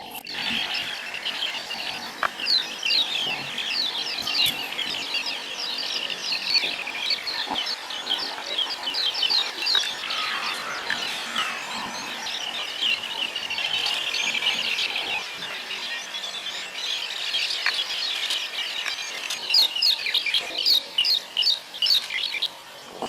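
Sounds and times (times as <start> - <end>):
small animals chirping chorus: 0.0 - 23.0.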